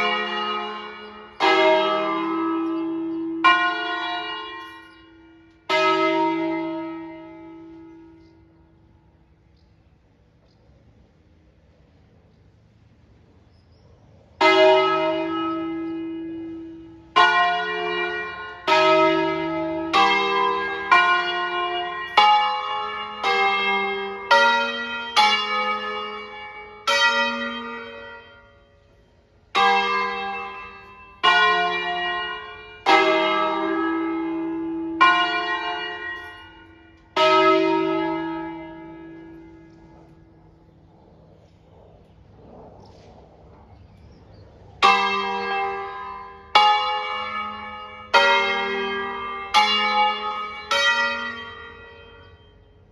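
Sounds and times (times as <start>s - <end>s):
church bells ringing: 0.0s - 10.4s, 11.1s - 52.9s.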